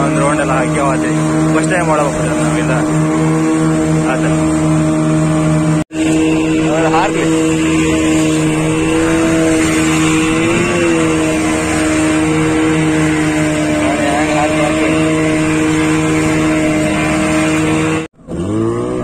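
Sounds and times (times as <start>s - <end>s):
rushing water: 0.0s - 18.1s
boat engine running: 0.0s - 19.0s
wind: 0.0s - 19.0s.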